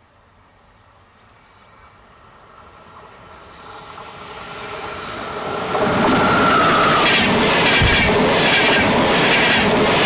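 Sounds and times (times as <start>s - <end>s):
train rumble and rail noise: 0.0s - 10.0s
locomotive whine: 1.7s - 10.0s.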